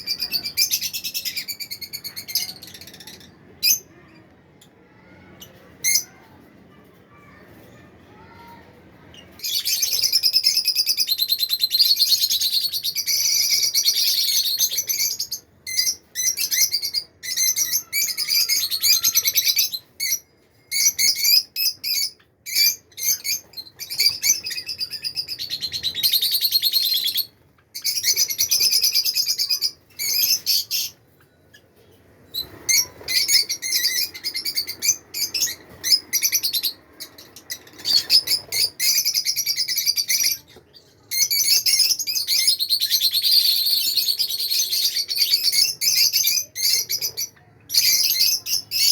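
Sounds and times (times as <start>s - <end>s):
budgerigars chirping and chattering: 0.0s - 4.1s, 9.2s - 48.9s.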